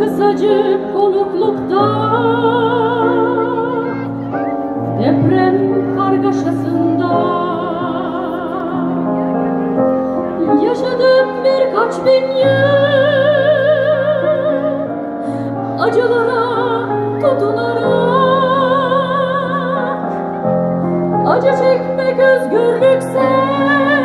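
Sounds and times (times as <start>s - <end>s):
sustained keyboard chords: 0.0s - 24.0s.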